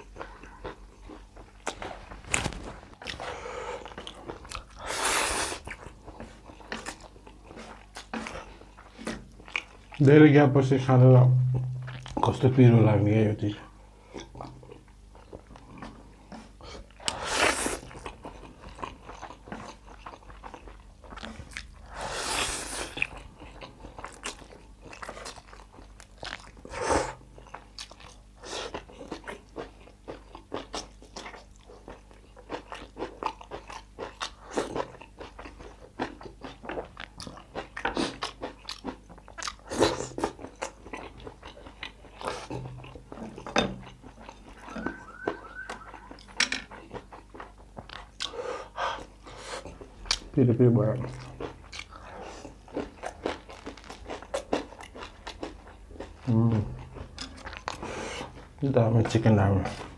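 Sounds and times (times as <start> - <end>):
person chewing crunchy food: 0.0 - 10.1, 11.4 - 12.3, 14.0 - 59.9.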